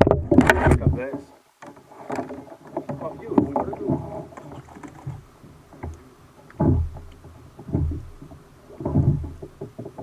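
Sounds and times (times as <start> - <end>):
kayak paddle strokes in water: 0.0 - 10.0.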